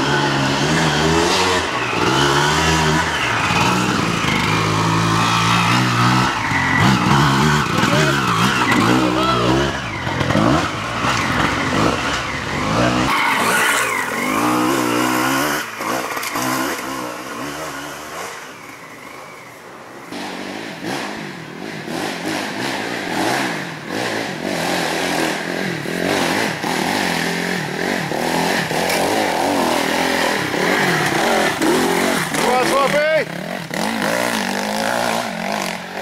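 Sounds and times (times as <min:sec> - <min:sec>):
dirt bike approaching: 0:00.0 - 0:36.0
dirt bike engines revving: 0:00.0 - 0:36.0.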